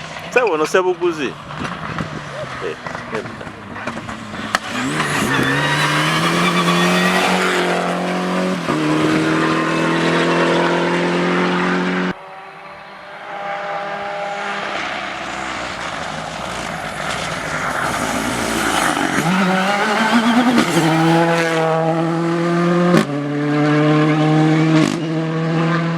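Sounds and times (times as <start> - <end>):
rally car engines revving: 0.0 - 25.9.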